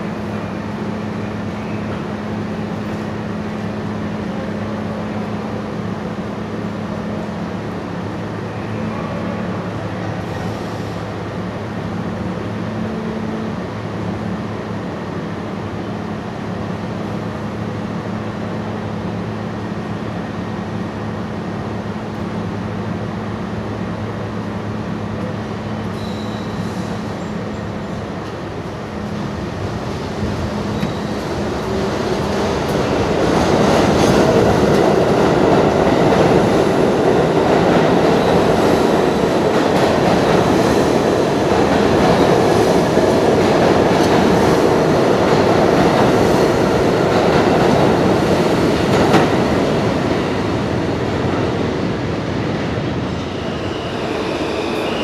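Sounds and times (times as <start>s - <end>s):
train wheels and running noise: 0.0s - 55.0s.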